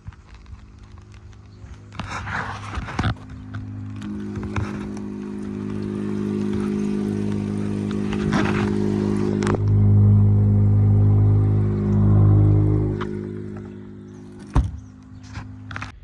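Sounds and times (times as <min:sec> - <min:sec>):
engine idling: 0:00.7 - 0:16.0.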